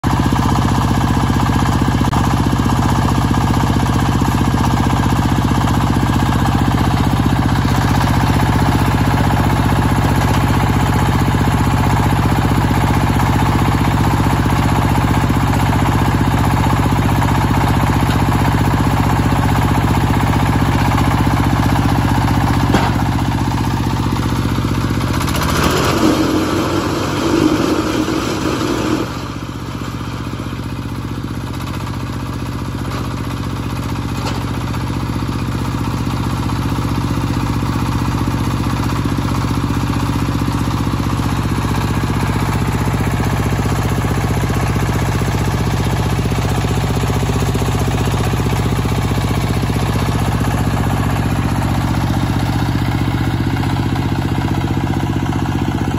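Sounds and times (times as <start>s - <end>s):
diesel engine running: 0.0s - 55.9s
machine rattling hum: 0.2s - 55.9s.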